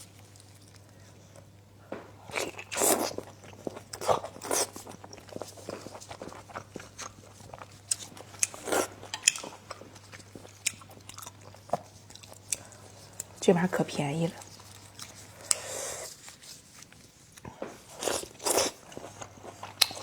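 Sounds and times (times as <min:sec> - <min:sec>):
person biting and chewing food: 0:00.1 - 0:13.3, 0:14.5 - 0:20.0.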